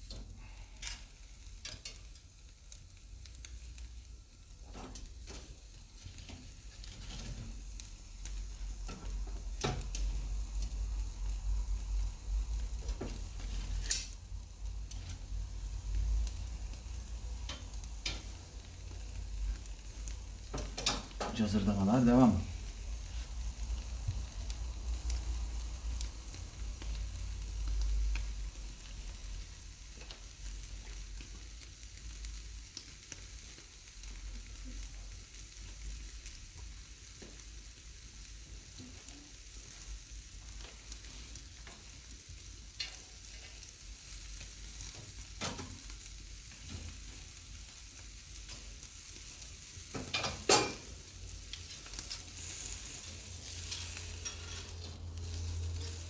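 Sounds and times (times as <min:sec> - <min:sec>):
steak sizzling on grill: 0:00.0 - 0:56.0.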